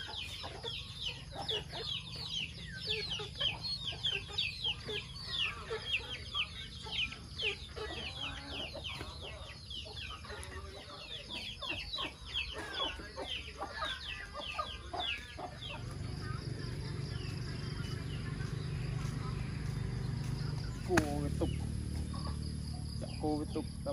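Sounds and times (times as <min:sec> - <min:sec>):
chickens cheeping and clucking: 0:00.0 - 0:23.9.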